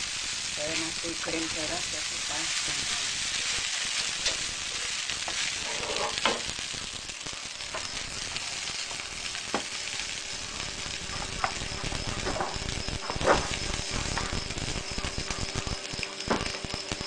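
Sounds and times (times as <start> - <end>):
fried rice sizzling: 0.0 - 17.0.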